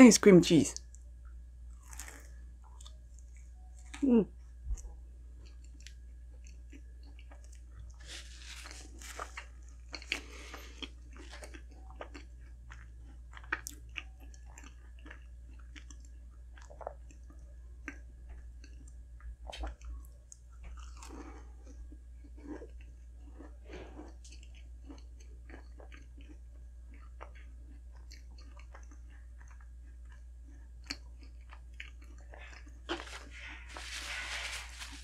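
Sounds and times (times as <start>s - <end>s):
person chewing: 1.7s - 35.0s.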